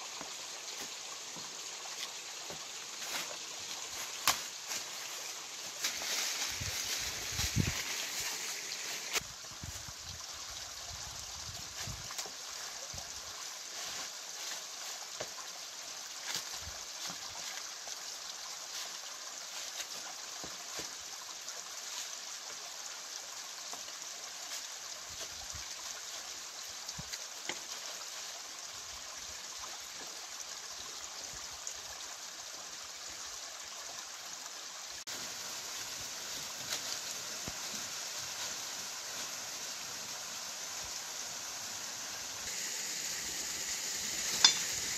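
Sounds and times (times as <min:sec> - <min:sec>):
stream water over rocks: 0:00.0 - 0:44.9.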